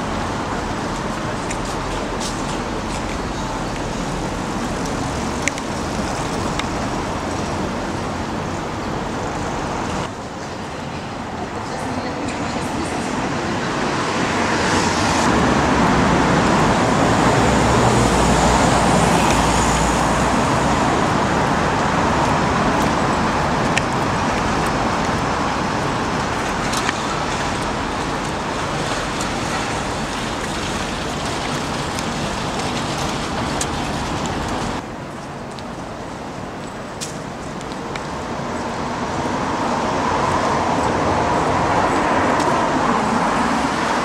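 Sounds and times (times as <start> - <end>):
passing cars: 0.0 - 35.0, 36.0 - 44.0.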